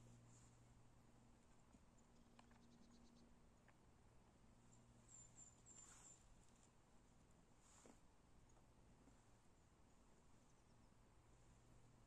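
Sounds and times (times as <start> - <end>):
faint background hiss: 0.0 - 12.0
steady low hum: 0.0 - 12.0.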